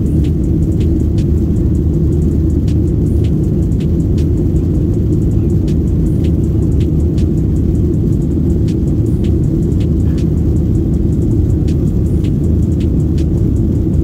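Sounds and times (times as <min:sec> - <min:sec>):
jet engine and airflow rumble: 0:00.0 - 0:14.0.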